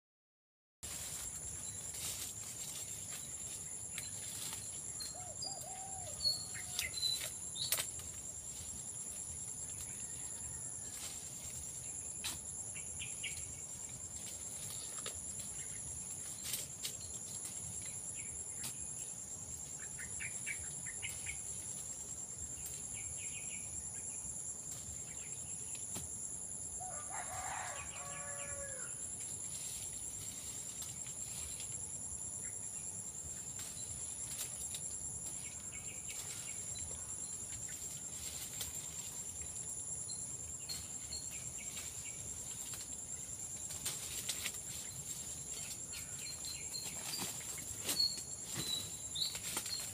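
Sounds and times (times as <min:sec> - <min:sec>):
insects droning: 0:00.8 - 0:49.9.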